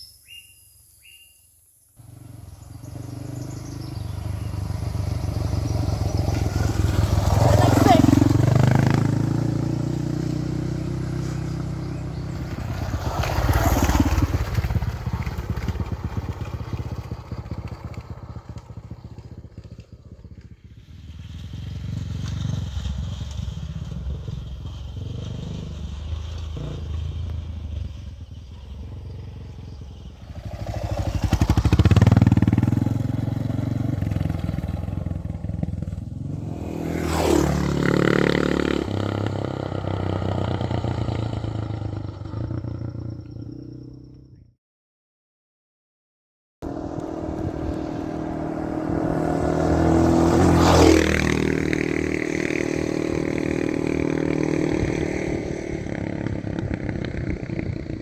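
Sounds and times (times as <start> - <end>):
dirt bike engine revving: 2.0 - 43.6, 46.6 - 58.0.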